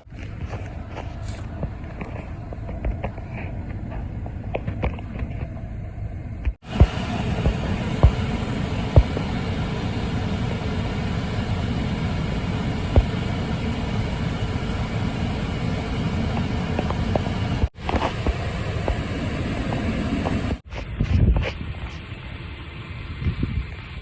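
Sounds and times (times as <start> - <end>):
airliner rumble and hiss: 0.0 - 24.0.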